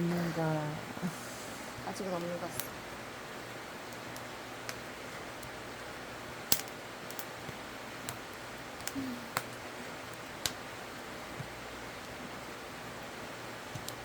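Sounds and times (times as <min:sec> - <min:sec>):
campfire crackling and popping: 0:00.0 - 0:14.0
soft hiss of burning fire: 0:00.0 - 0:14.0.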